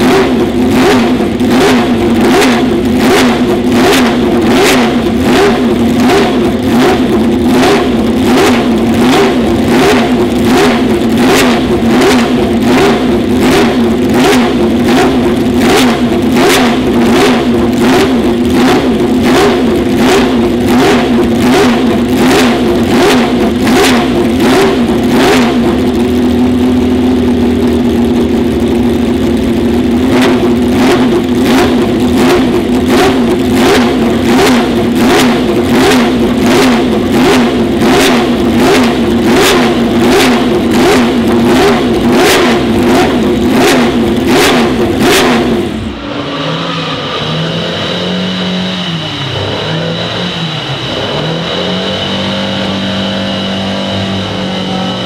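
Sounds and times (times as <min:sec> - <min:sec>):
racing engine idling: 0:00.0 - 0:55.0.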